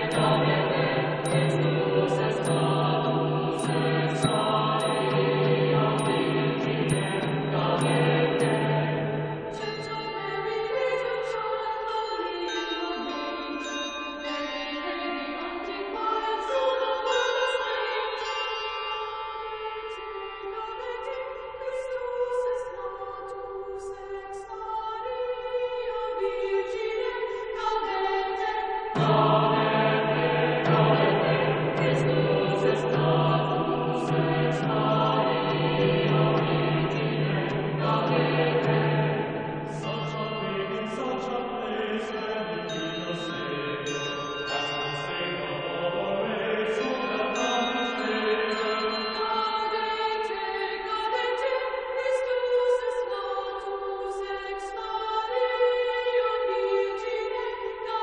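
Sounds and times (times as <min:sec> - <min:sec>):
choir singing a chant: 0:00.0 - 0:13.7, 0:19.1 - 0:58.0.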